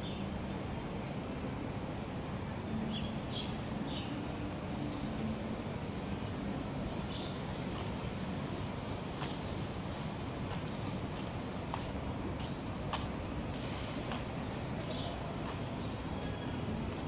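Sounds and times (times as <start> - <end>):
outdoor background hum: 0.0 - 17.0
small birds chirping: 0.0 - 17.0.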